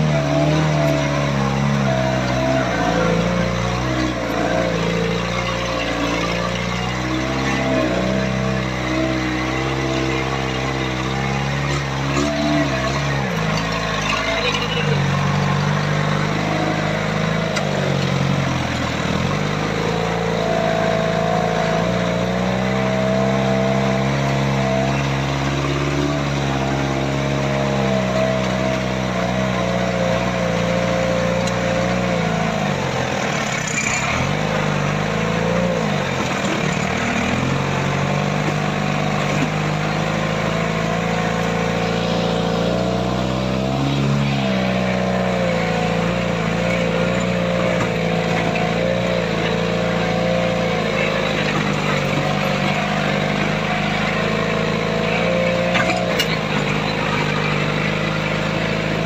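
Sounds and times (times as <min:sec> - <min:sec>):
engine revving under load: 0:00.0 - 0:59.0.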